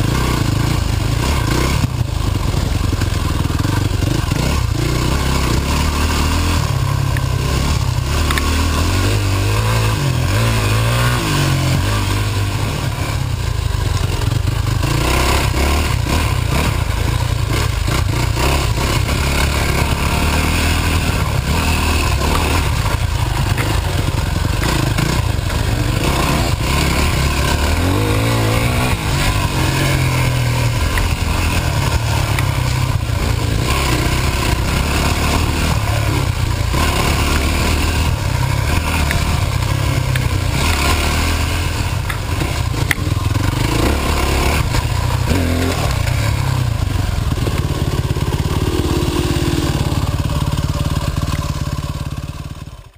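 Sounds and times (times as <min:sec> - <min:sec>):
bike over rough ground: 0:00.0 - 0:52.9
dirt bike engine revving: 0:00.0 - 0:52.9.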